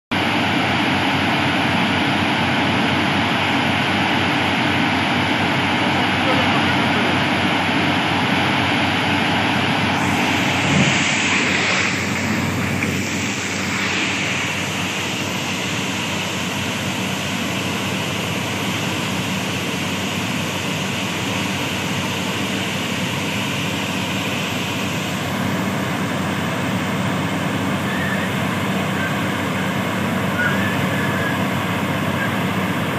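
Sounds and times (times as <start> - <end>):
low engine hum: 0.1 - 32.9
loud rush of air: 4.9 - 32.9.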